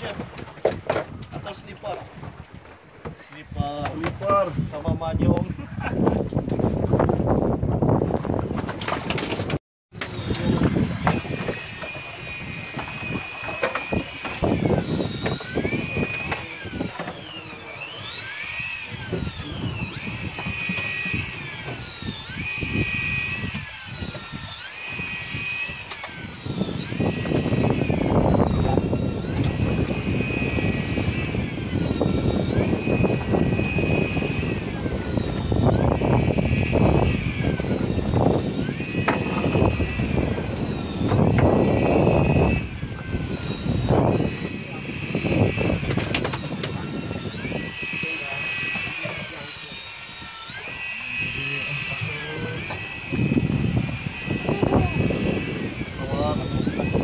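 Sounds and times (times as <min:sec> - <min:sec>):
fishing reel motor whining: 0:09.1 - 0:57.0.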